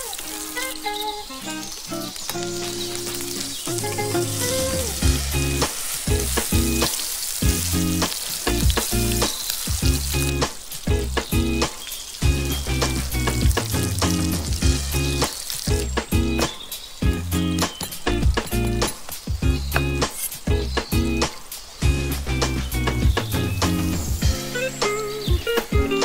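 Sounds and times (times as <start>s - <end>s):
burger patties sizzling in oil: 0.0s - 26.0s
background music with a beat: 2.4s - 26.0s.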